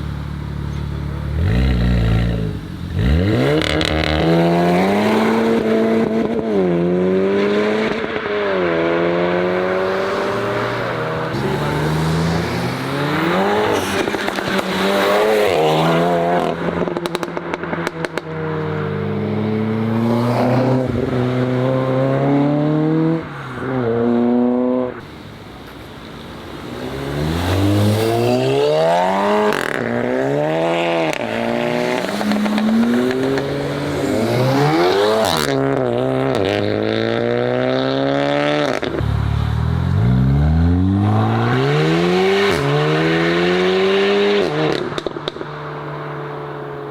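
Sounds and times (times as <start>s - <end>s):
car engines accelerating hard: 0.0s - 25.0s, 26.4s - 46.9s.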